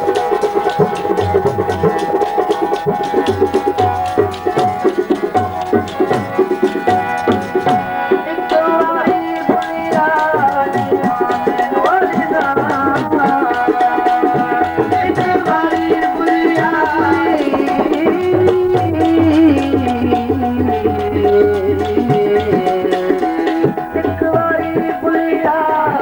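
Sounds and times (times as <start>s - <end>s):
hand drum strokes: 0.0s - 8.2s, 9.0s - 25.3s.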